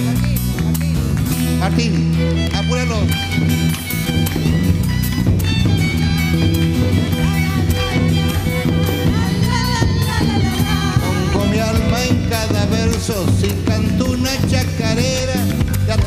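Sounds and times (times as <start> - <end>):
live band playing dance tune: 0.0 - 16.0.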